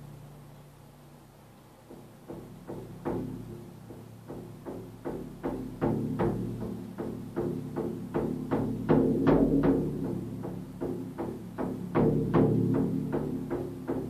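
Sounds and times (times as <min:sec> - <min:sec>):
frame drum beaten with low boom: 0:01.9 - 0:14.0.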